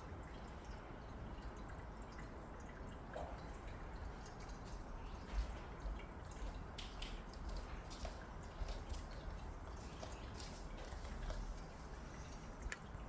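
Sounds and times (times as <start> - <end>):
cat lapping water: 0.2 - 13.0.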